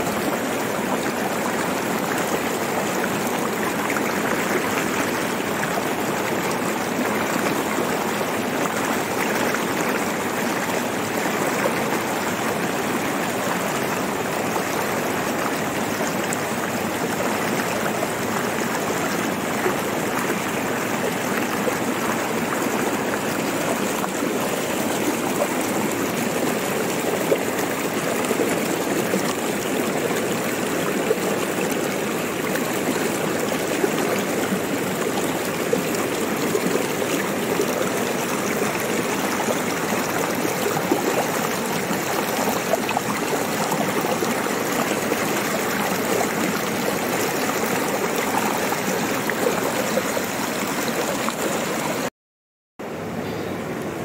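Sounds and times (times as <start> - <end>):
stream rushing over stones: 0.0 - 52.1.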